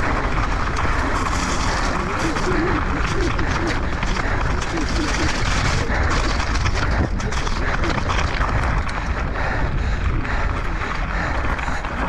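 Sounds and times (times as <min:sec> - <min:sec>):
bike rattling: 0:00.0 - 0:12.0
tyres crunching over gravel: 0:00.0 - 0:12.0
wind rumbling on microphone: 0:00.0 - 0:12.0.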